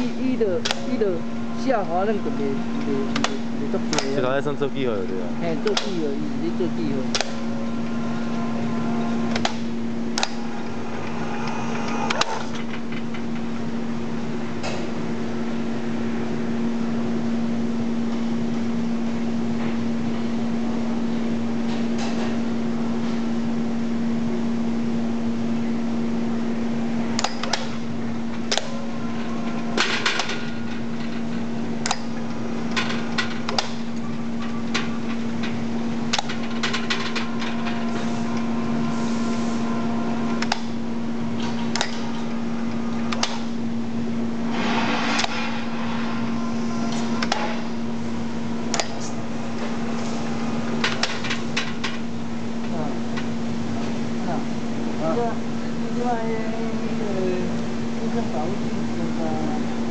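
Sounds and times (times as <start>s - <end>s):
electric hoist motor hum: 0.0s - 59.9s.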